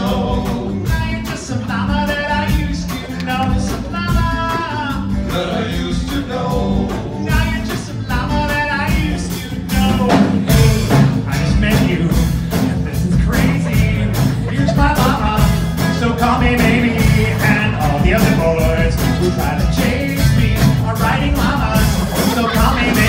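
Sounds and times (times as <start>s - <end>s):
acoustic guitars: 0.0s - 23.0s
bass guitar: 0.0s - 23.0s
steady drum beat: 0.0s - 23.0s.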